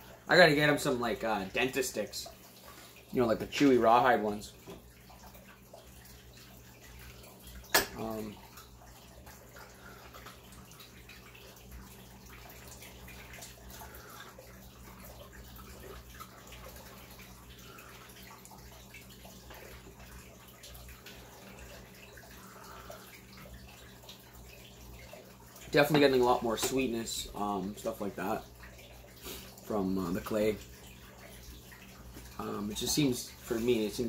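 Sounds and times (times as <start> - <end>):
low electrical hum: 0.0 - 34.0
water trickling from aquarium filter: 0.0 - 34.0.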